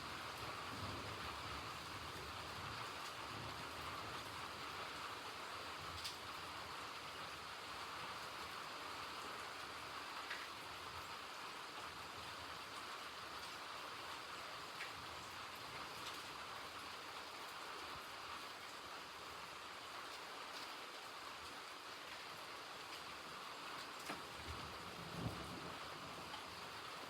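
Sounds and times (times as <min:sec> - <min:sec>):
steady rain patter: 0:00.0 - 0:27.0.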